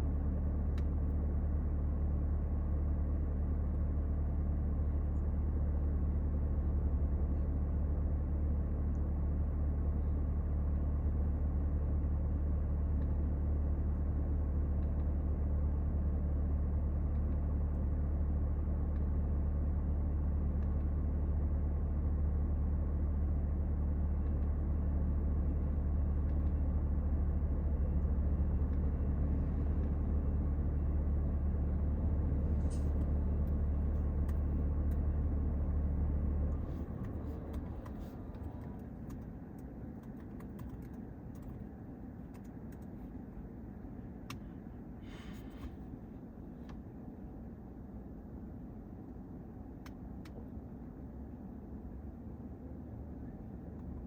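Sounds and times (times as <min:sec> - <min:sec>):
low vehicle rumble: 0:00.0 - 0:54.0.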